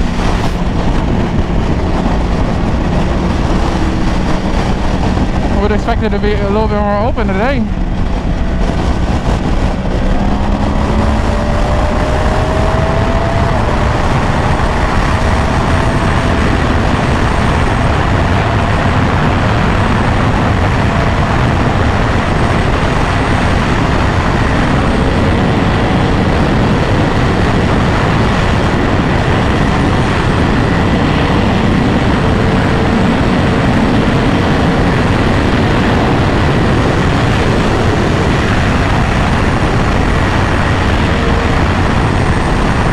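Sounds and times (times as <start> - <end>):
motorcycle engine: 0.0 - 42.9
wind noise on microphone: 0.0 - 42.9.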